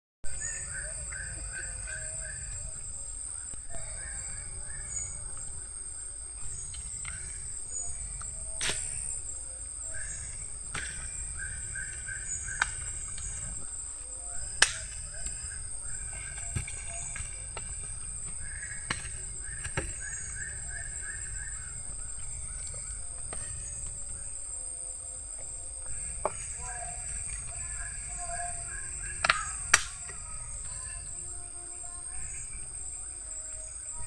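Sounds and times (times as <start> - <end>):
high-pitched insect drone: 0.3 - 34.0.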